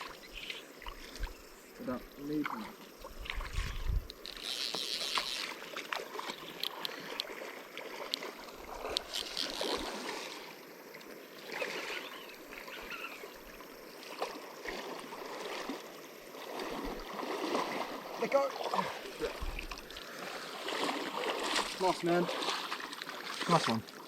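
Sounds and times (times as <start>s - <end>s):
river water splashing and trickling: 0.0s - 24.0s.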